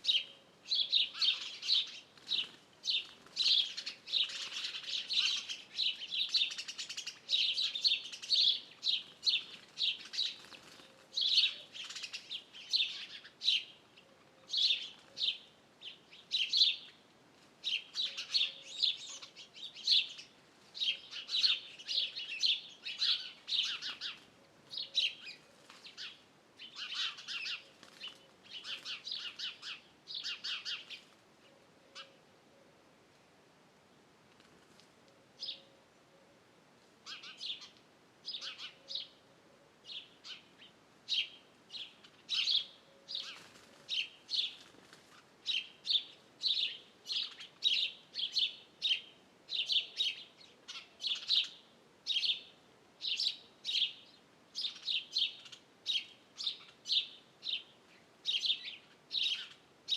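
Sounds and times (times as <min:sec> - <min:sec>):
birds chirping and twittering: 0:00.0 - 0:17.0, 0:17.6 - 0:32.2, 0:35.4 - 0:35.8, 0:37.0 - 0:39.2, 0:39.8 - 0:59.9.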